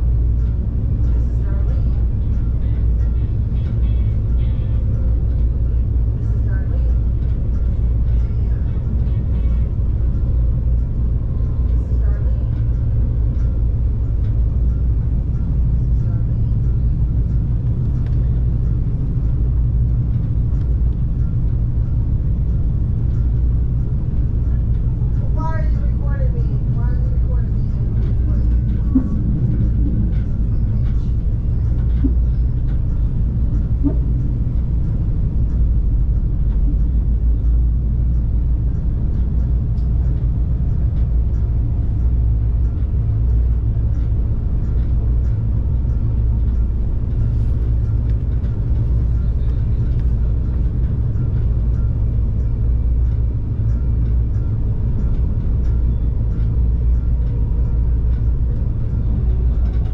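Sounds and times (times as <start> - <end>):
diesel train engine rumble: 0.0 - 59.9.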